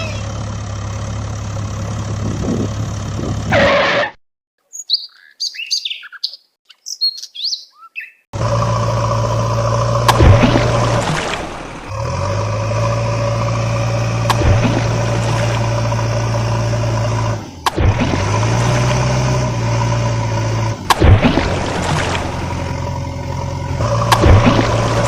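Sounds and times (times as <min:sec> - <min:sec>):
truck engine idling: 0:00.0 - 0:03.5, 0:08.4 - 0:25.0.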